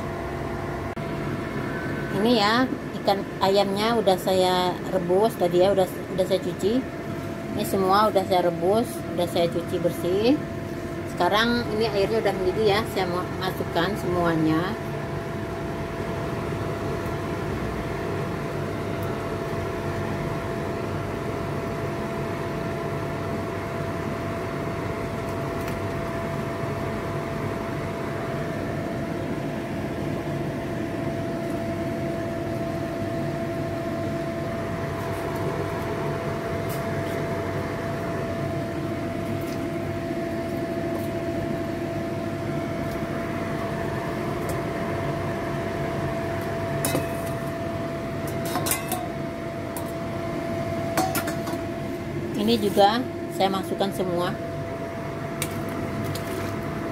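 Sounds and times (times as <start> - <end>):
machine hum: 0.0 - 56.9.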